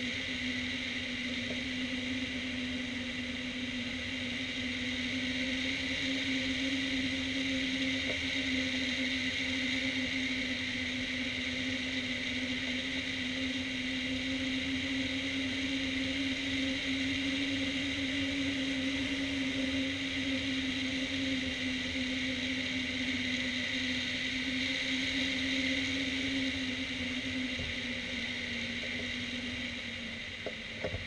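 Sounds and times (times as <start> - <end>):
low humming tone: 0.0 - 31.0.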